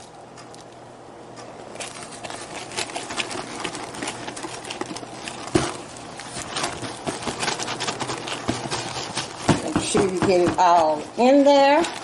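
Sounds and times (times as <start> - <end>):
cake mix pouring rustling: 1.6 - 12.0.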